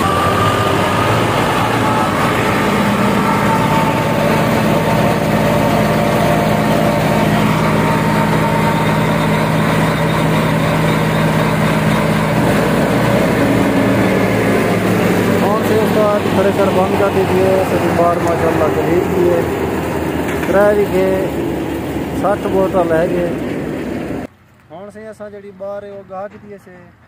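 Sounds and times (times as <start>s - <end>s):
thresher drum and belts whirring: 0.0s - 24.3s
tractor diesel engine running: 0.0s - 24.3s.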